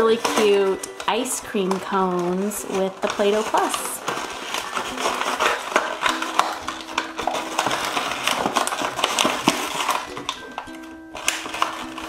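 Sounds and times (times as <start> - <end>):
faint music: 0.0 - 12.0
packaging crinkling: 0.0 - 12.0
cardboard tearing: 1.6 - 12.0.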